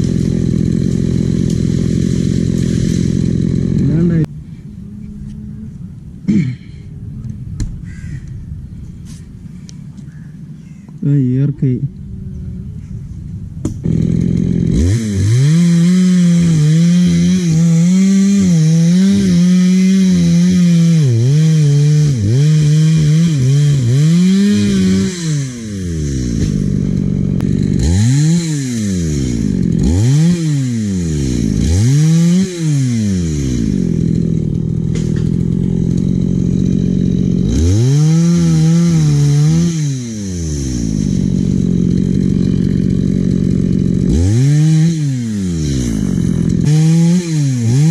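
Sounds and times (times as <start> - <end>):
chainsaw engine revving: 0.0 - 4.3, 10.1 - 47.9.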